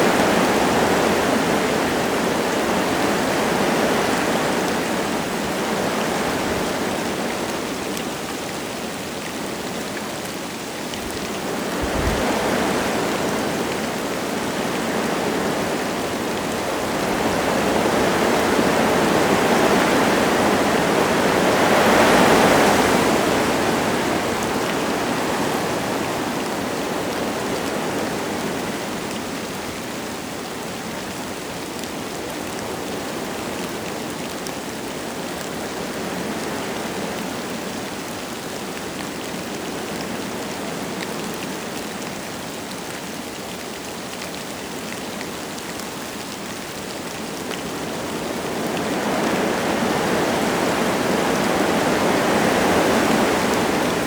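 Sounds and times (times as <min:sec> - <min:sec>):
light rain falling: 0:00.0 - 0:54.0
wind gusting through trees: 0:00.0 - 0:54.0.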